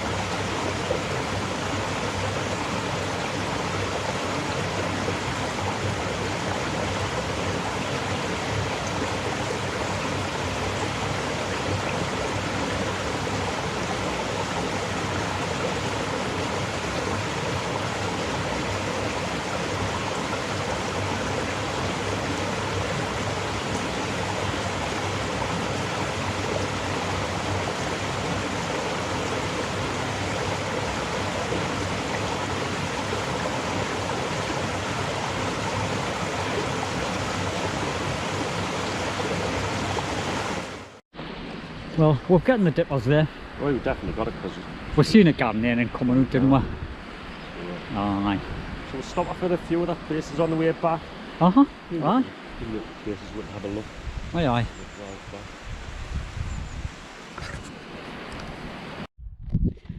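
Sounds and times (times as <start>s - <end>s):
stream rushing: 0.0s - 59.1s.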